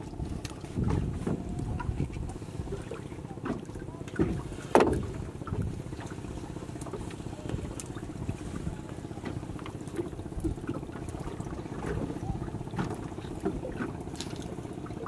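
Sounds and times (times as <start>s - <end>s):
net and fish tapping on boat: 0.0s - 15.0s.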